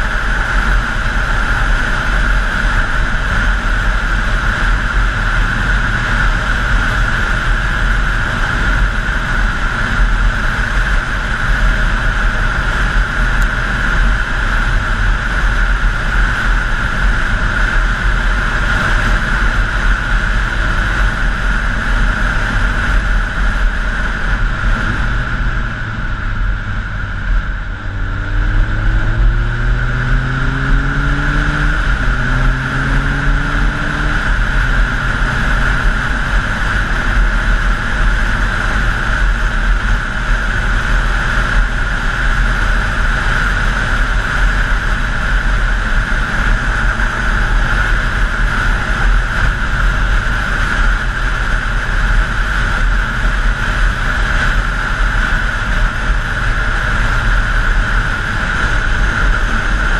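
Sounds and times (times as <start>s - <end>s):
motorcycle engine running: 0.0s - 59.9s
wind rushing over camera: 0.0s - 59.9s.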